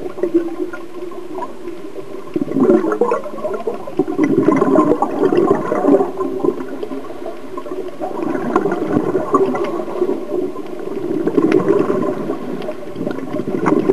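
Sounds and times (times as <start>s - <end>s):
underwater bubbles gurgling: 0.0s - 13.9s.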